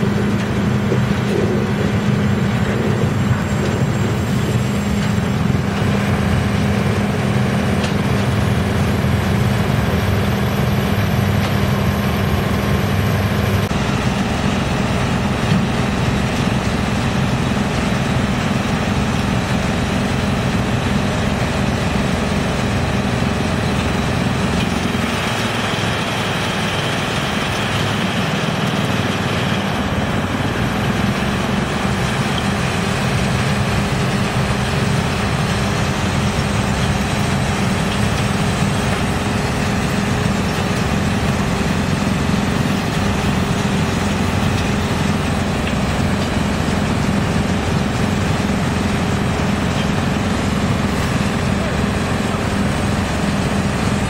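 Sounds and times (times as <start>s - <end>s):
diesel engine running: 0.0s - 54.0s
wood chipper chipping logs: 0.0s - 54.0s.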